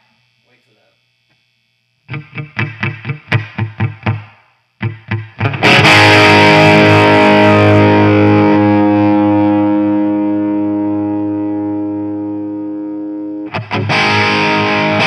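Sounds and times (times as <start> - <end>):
distorted guitar chord ringing: 2.1 - 15.0
distorted guitar chugs: 2.1 - 15.0.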